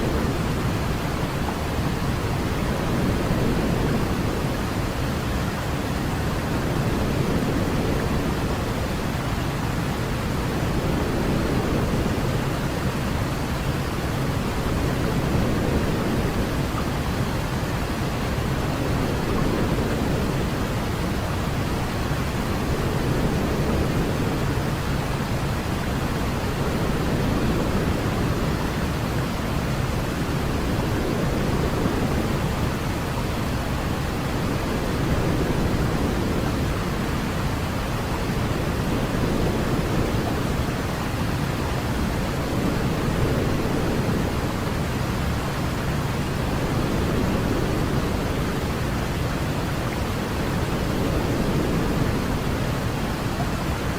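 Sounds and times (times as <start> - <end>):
deep rushing white noise: 0.0 - 53.9.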